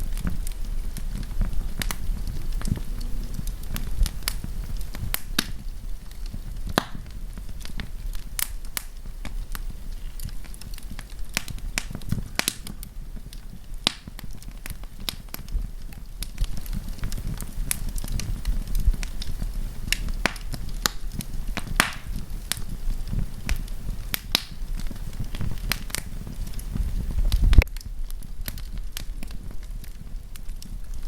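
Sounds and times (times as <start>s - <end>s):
wood fire burning: 0.0s - 31.0s.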